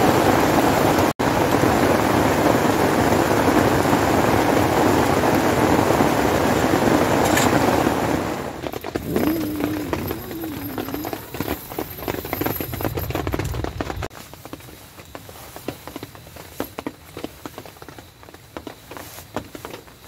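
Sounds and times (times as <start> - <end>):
rain on a tent: 0.0 - 20.0.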